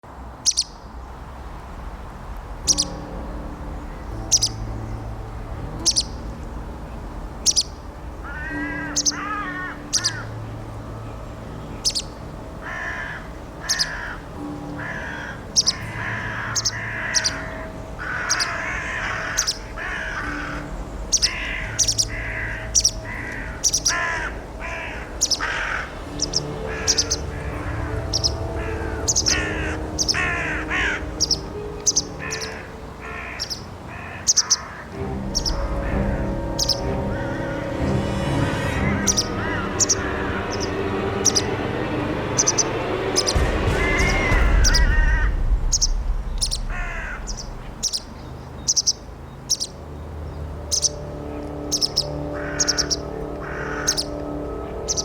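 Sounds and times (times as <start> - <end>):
music with low drone: 0.1 - 55.0
sharp ticking strikes: 2.2 - 33.7, 34.3 - 55.0
crows cawing: 5.7 - 6.4, 7.5 - 49.7, 50.7 - 55.0.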